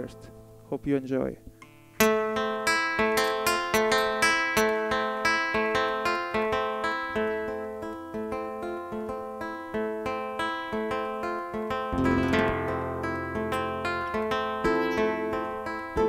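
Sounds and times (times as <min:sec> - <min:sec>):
acoustic guitars playing: 0:01.5 - 0:16.0
strummed guitar chord: 0:02.0 - 0:16.0.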